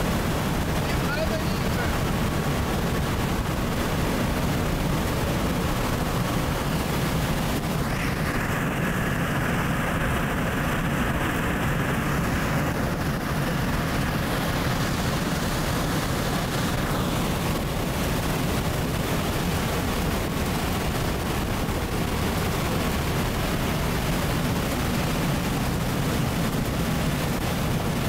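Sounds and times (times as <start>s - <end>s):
jet aircraft roar: 0.0s - 28.0s.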